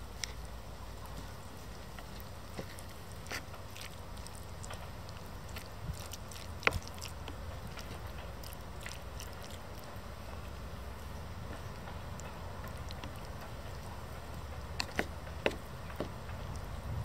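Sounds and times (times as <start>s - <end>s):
wet stirring of sticky food: 0.0s - 16.8s.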